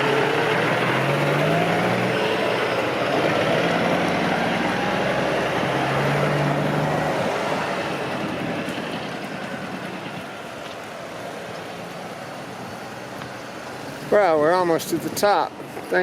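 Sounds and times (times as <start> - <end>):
road noise: 0.0 - 16.0
vehicle engine running: 0.0 - 16.0.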